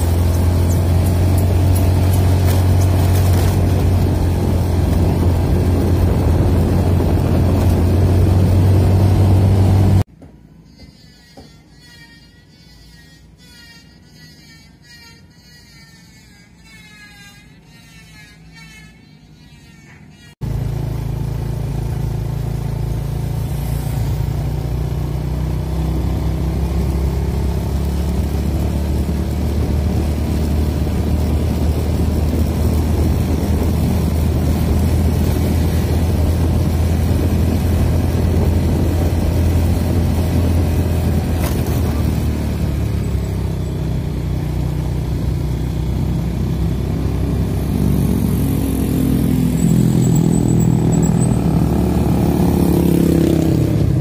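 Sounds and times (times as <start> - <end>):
vehicle engine running: 0.0 - 10.1, 20.4 - 54.0
road noise: 0.0 - 10.2, 20.4 - 54.0.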